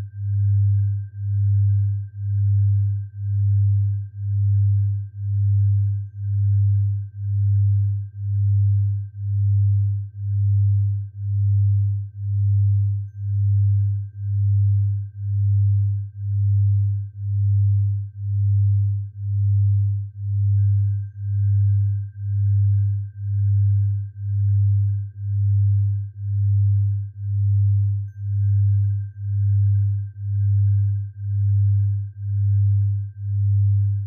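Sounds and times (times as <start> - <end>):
faint steady high tone: 0.0 - 34.0
low pulsing pure tone: 0.0 - 34.0.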